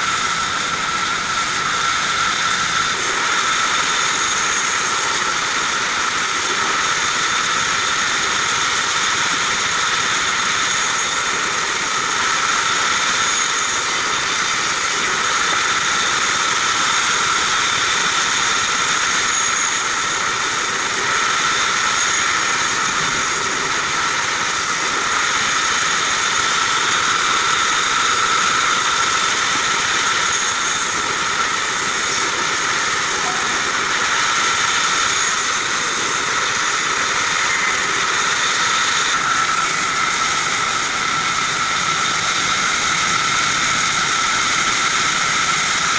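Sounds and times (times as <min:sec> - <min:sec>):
band sawmill whining: 0:00.0 - 0:45.9
saw blade cutting logs: 0:00.0 - 0:45.9.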